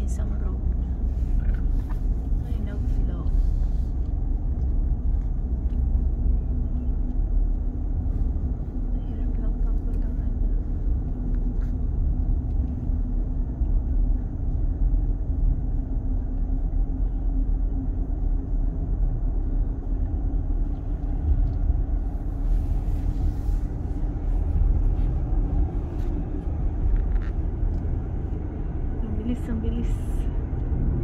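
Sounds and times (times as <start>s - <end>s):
car engine and tyres rumbling: 0.0s - 31.0s.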